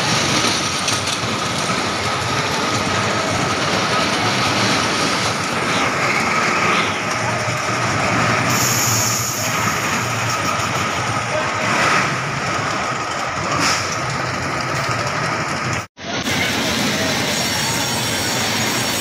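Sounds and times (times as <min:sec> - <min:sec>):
roller coaster wheels rumbling: 0:00.0 - 0:19.0.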